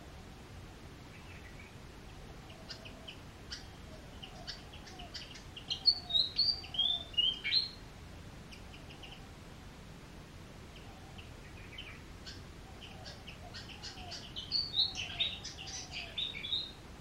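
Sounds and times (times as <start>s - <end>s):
faint low bird call: 0.0s - 7.8s, 10.7s - 16.8s
songbird chirping: 0.0s - 17.0s.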